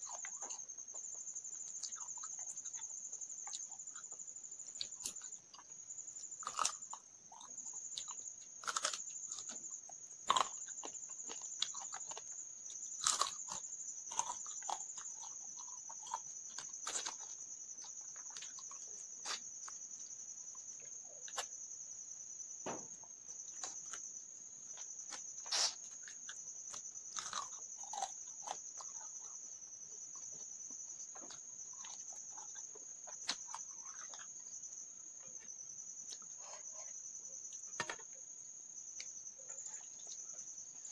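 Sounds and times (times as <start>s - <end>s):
chewing and crunching food: 0.0s - 40.9s
pulsing insect trill: 0.0s - 40.9s.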